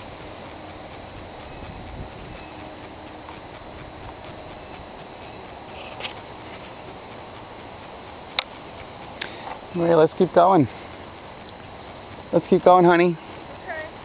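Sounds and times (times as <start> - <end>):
faint insect calls: 0.0 - 14.0
outdoor background noise: 0.0 - 14.0.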